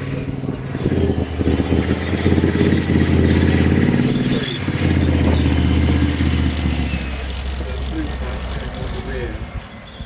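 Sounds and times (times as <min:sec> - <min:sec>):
tank engine running loudly: 0:00.0 - 0:10.0.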